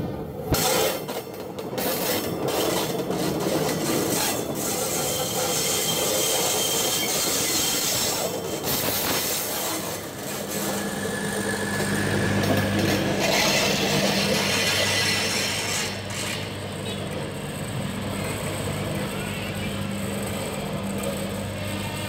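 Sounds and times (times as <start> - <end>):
train wheels rumbling on rails: 0.0 - 22.0
high wheel squeal: 2.1 - 22.0.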